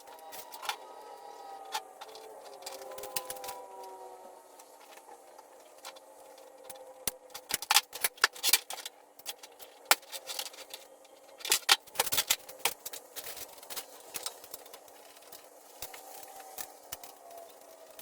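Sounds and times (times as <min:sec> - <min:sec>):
faint steady hum: 0:00.0 - 0:18.0
hand tools and metal parts clinking: 0:00.0 - 0:18.0.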